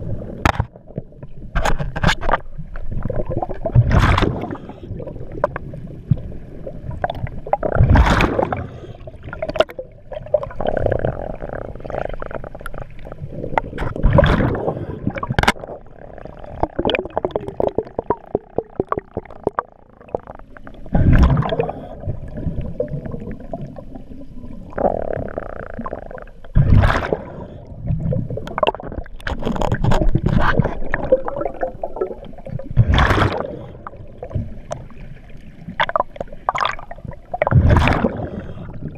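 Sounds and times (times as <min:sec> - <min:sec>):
gurgling exhaled bubbles: 0:02.2 - 0:38.9.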